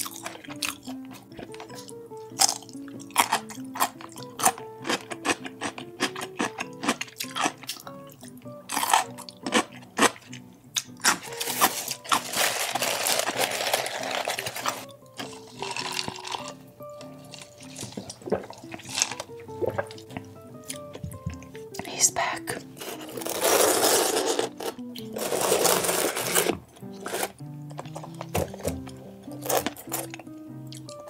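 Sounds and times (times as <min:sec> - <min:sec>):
background music with held notes: 0:00.0 - 0:31.0
close chewing and crunching: 0:00.0 - 0:31.0.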